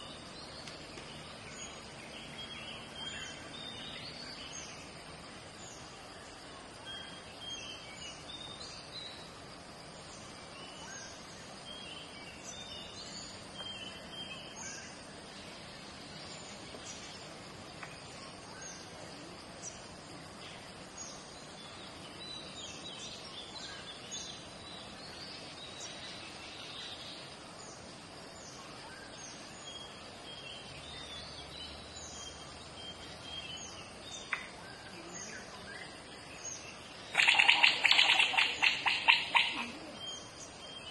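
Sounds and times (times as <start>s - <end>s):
birds chirping: 0.0s - 40.9s
low background hiss: 0.0s - 40.9s.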